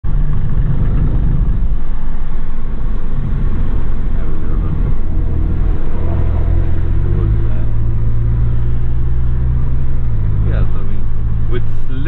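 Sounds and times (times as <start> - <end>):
car engine running: 0.0 - 12.0
low road rumble: 0.0 - 12.0.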